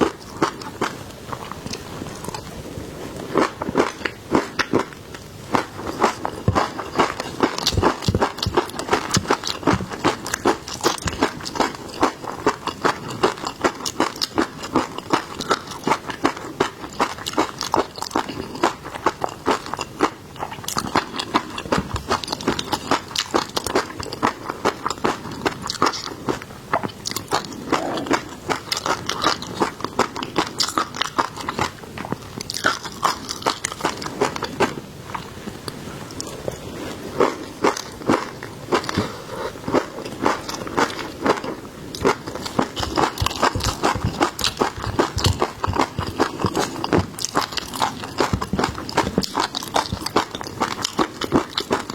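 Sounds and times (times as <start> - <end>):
person chewing crunchy seafood: 0.0 - 51.9.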